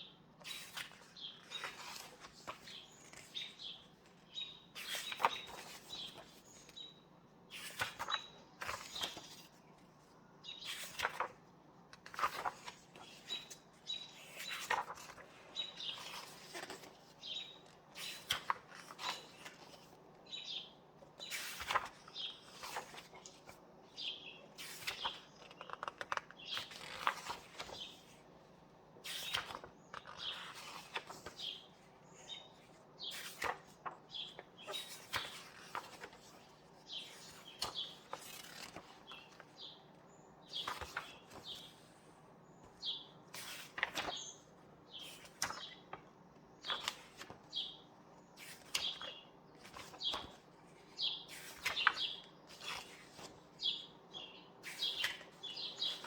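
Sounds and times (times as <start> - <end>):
book pages turning: 0.4 - 6.9, 7.5 - 20.2, 21.0 - 23.6, 24.6 - 28.3, 29.0 - 39.8, 40.5 - 42.0, 42.6 - 44.4, 45.0 - 47.8, 48.4 - 53.8, 54.5 - 56.0
small birds chirping: 0.5 - 9.6, 12.1 - 28.2, 29.1 - 56.0.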